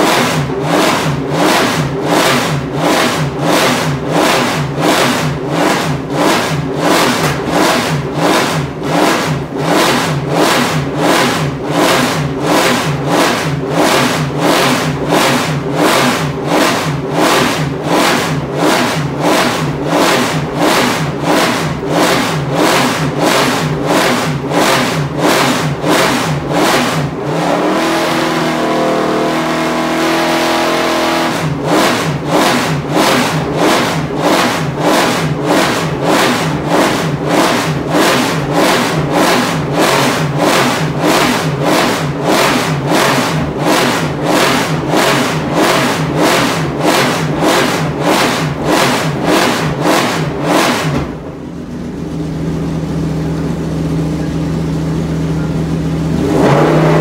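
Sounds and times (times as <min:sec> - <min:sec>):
race car engine idling: 0:00.0 - 0:30.1, 0:31.2 - 0:57.0.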